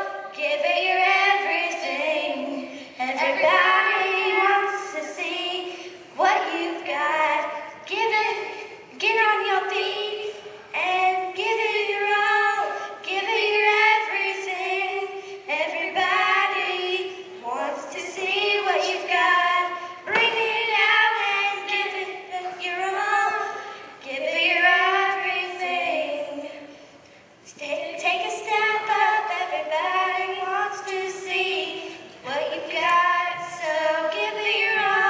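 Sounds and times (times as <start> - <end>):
girls singing into a microphone: 0.0 - 35.0.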